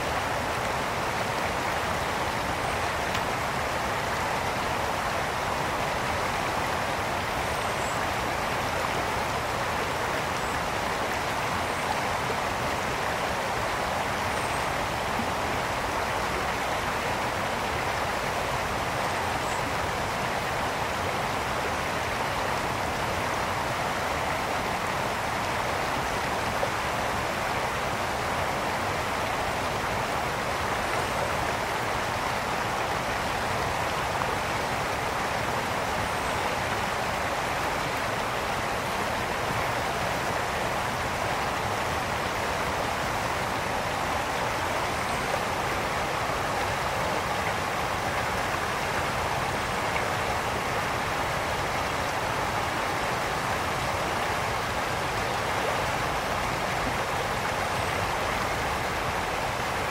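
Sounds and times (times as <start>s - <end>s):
brook flowing: 0.0s - 59.9s.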